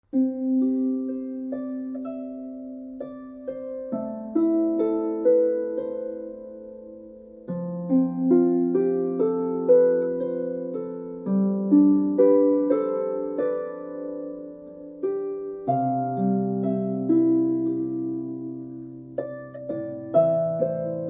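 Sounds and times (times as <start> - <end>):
plucked harp chords: 0.1 - 21.0.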